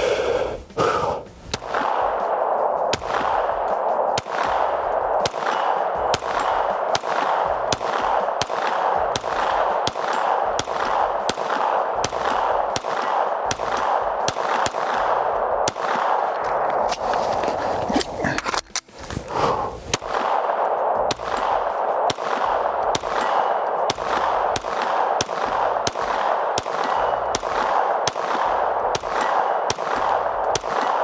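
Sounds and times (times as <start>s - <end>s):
pistol shots: 1.5s - 18.6s, 19.3s - 31.0s.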